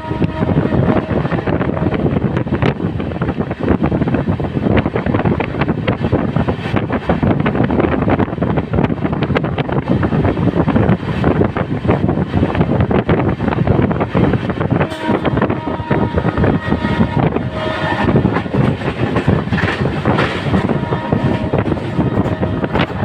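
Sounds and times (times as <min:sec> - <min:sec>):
train running noise: 0:00.0 - 0:23.0
wind buffeting microphone: 0:00.0 - 0:23.0.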